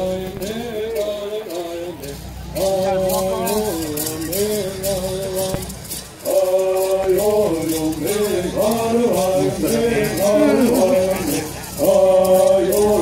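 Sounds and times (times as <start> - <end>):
men singing in chant: 0.0 - 13.0
gourd rattles shaking: 0.1 - 13.0.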